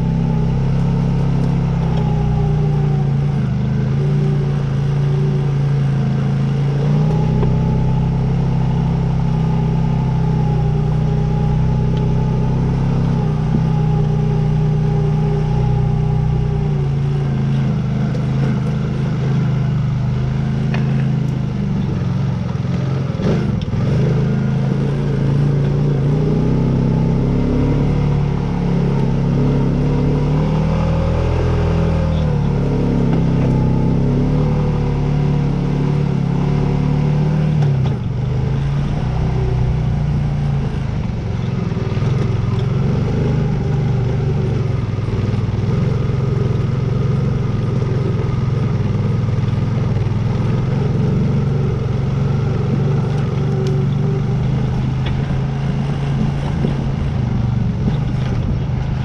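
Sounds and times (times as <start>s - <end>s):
atv engine running under load: 0.0s - 59.0s.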